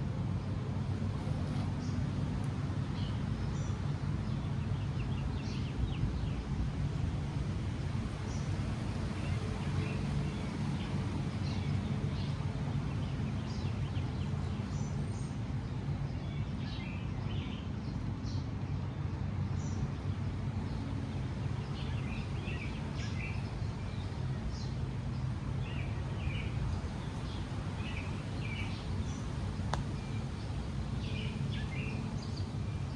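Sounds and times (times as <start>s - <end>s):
steady low rumble: 0.0s - 32.9s
birds chirping: 0.9s - 18.4s, 19.5s - 32.9s.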